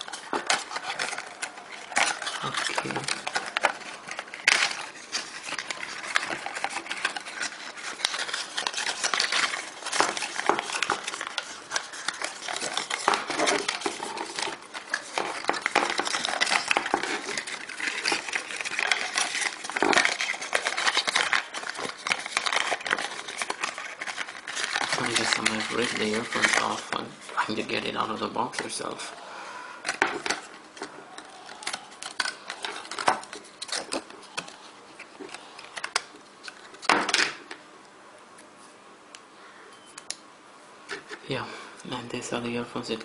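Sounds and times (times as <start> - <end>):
packaging crinkling and rubbing: 0.0 - 29.2, 29.9 - 37.6.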